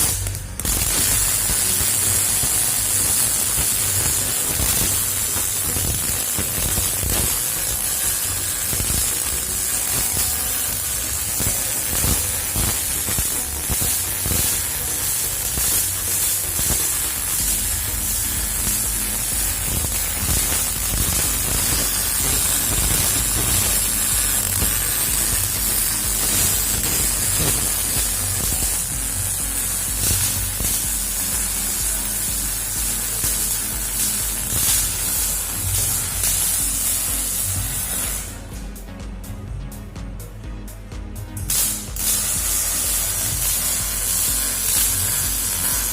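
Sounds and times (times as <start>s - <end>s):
welding arc crackling sizzle: 0.0s - 38.5s, 41.4s - 45.9s.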